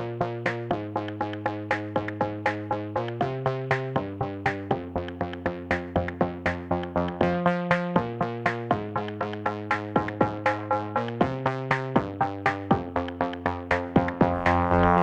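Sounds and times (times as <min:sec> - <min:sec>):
quick drum-machine beat: 0:00.0 - 0:15.0
synthesizer chords: 0:00.0 - 0:15.0.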